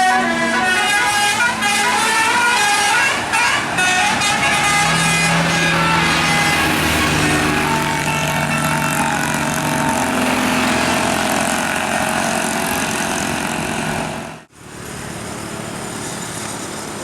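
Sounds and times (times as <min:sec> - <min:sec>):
large vehicle engine and road noise: 0:00.0 - 0:17.0.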